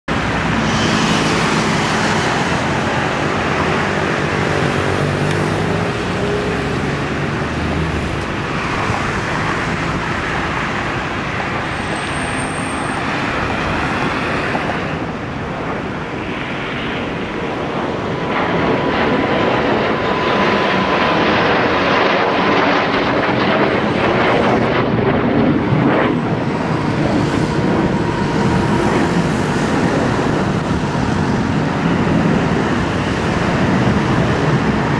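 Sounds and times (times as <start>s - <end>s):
fighter jets roaring overhead: 0.1s - 34.9s.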